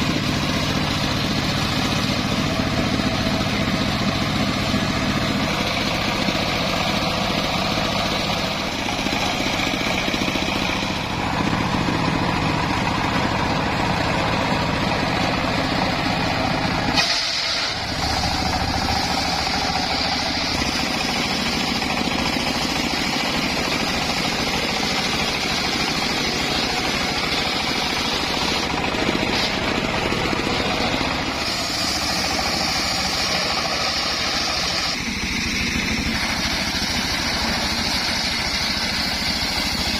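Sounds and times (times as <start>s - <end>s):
circular saw motor drone: 0.0s - 39.9s.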